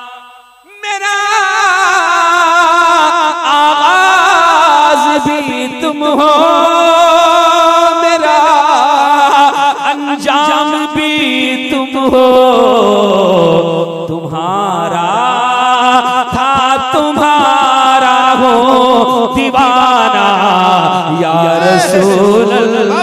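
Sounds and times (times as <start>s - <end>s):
man singing through microphone: 0.0s - 23.0s.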